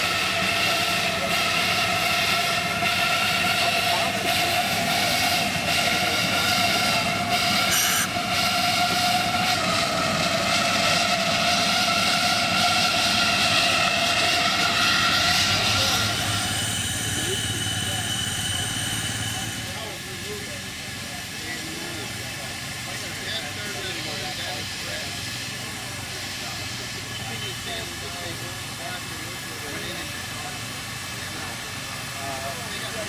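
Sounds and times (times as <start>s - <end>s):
steam hissing: 0.0s - 33.0s
steam locomotive whine: 0.0s - 33.0s.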